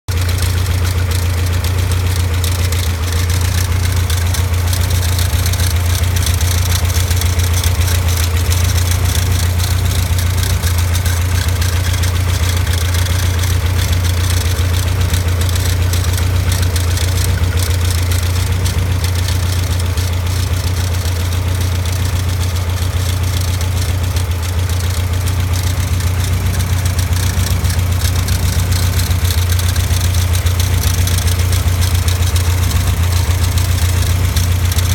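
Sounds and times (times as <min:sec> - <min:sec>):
alternator rattle: 0:00.0 - 0:34.9
car engine idling: 0:00.0 - 0:34.9.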